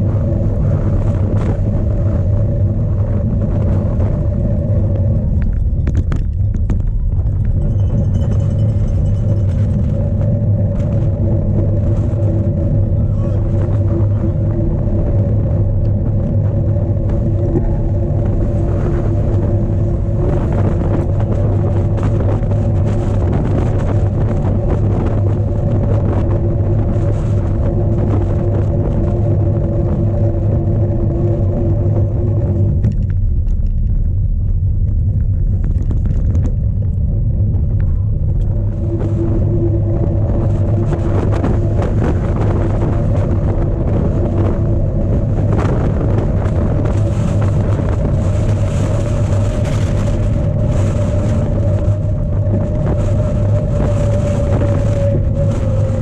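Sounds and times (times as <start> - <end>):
bike rattling over rough ground: 0.0 - 56.0
wind buffeting microphone: 0.0 - 56.0.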